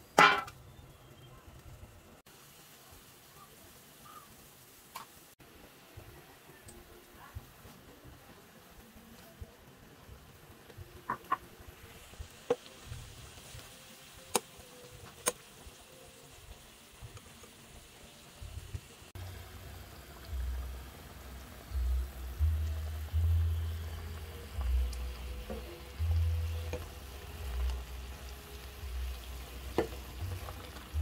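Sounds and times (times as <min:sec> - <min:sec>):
broth boiling and bubbling: 0:00.0 - 0:31.0.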